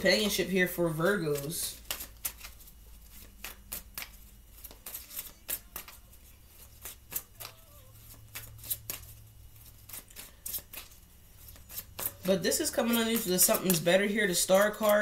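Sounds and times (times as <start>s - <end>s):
cards being shuffled by hand: 0.0s - 15.0s.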